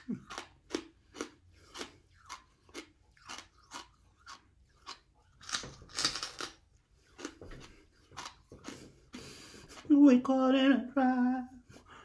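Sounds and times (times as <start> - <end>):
hard dry crunching chews: 0.0 - 9.9.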